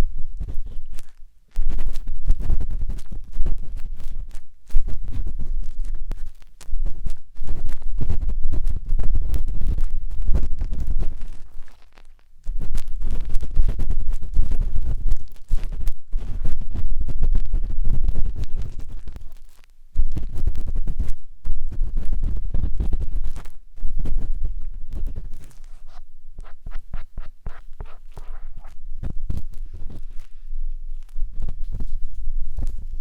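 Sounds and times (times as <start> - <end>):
matchstick scratching on microphone: 0.0 - 33.0.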